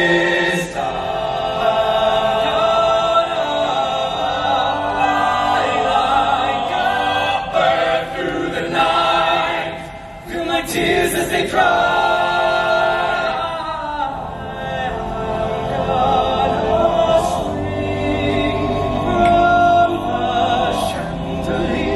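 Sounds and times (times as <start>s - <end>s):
men singing in harmony: 0.0s - 21.9s.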